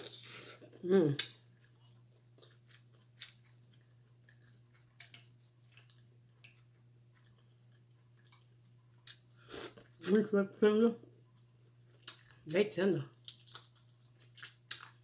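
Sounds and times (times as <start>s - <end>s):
quiet chewing: 0.0s - 10.1s, 11.1s - 12.5s, 13.1s - 15.0s.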